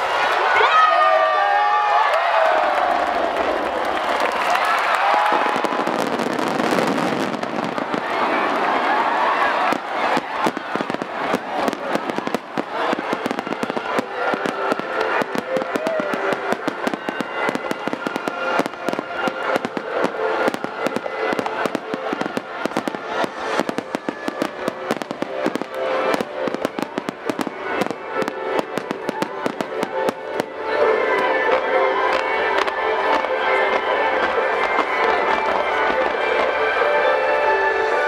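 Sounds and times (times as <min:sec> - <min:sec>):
music playing: 0:00.0 - 0:38.0
fireworks bursting: 0:03.0 - 0:38.0.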